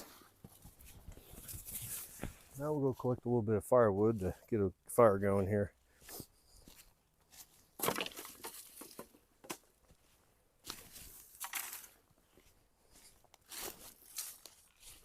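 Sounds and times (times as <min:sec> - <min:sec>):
dry leaves and twigs crunching: 0:00.0 - 0:03.1, 0:05.8 - 0:15.0.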